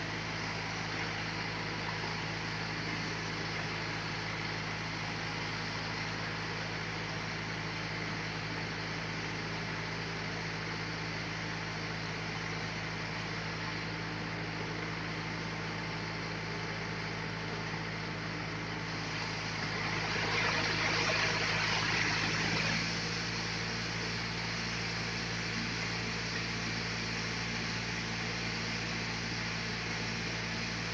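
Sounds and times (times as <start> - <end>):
sawmill machinery hum: 0.0 - 30.9.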